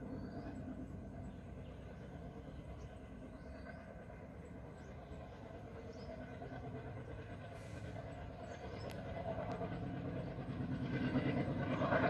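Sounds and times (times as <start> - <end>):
distant diesel locomotive rumble: 0.0 - 12.0.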